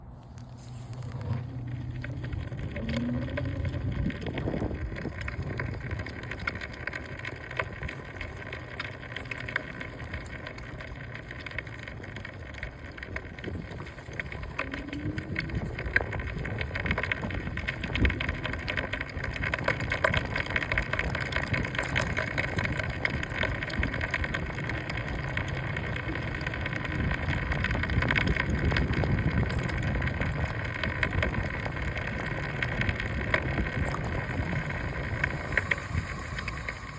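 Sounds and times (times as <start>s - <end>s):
road and engine noise: 0.0s - 36.9s
wheel rattling: 0.0s - 36.9s.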